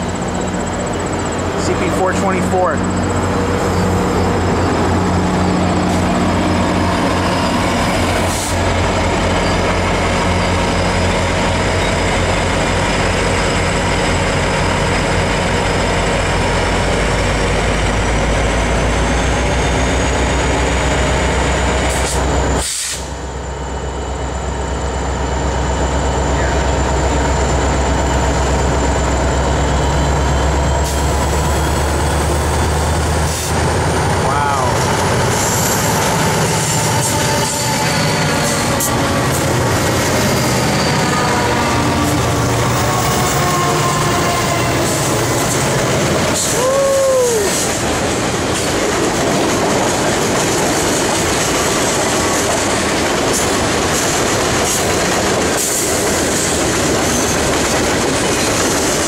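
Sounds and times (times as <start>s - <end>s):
deep locomotive engine drone: 0.0s - 59.0s.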